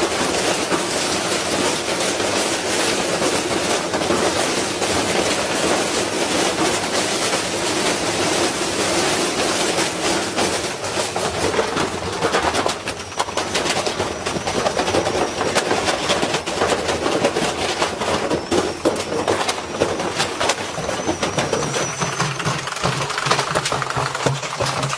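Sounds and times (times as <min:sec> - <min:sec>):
brick clattering in washing machine: 0:00.0 - 0:24.9.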